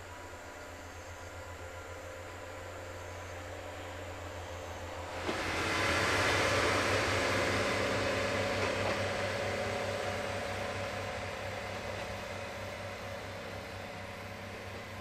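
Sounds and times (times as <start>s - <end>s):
rail noise: 0.0s - 15.0s
train engine drone: 0.0s - 15.0s.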